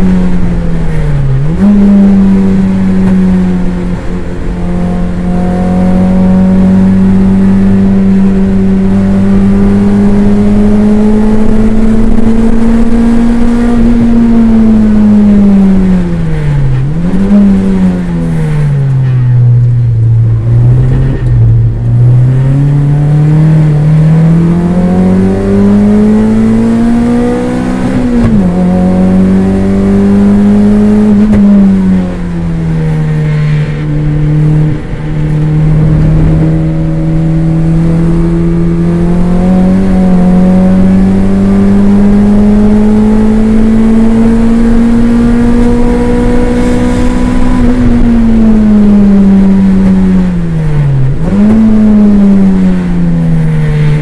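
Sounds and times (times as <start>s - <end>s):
race car engine from inside cabin: 0.0s - 54.0s.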